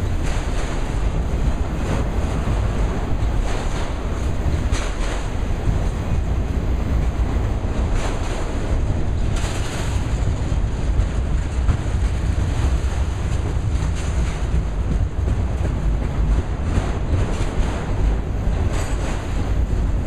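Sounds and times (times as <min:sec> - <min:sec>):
train clattering: 0:00.0 - 0:20.0
train wheels rumbling on rail: 0:00.0 - 0:20.0.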